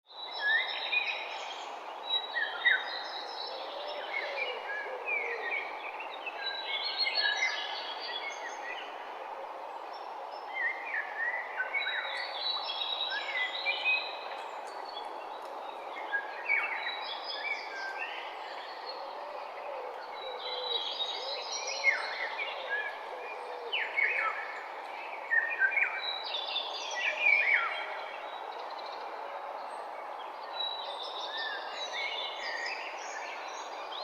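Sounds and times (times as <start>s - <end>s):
songbirds singing and chirping: 0.1s - 34.0s.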